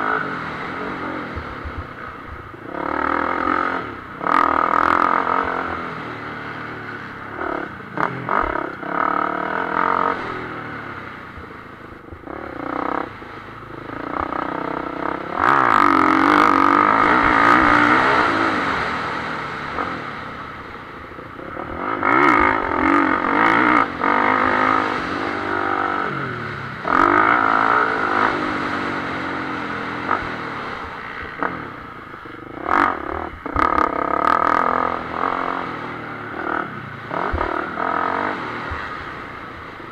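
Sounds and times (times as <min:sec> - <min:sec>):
motorbike engine accelerating: 0:00.0 - 0:39.9.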